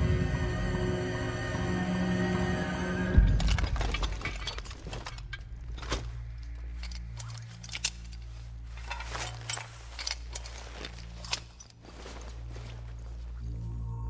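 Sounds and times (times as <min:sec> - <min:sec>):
low musical drone: 0:00.0 - 0:14.0.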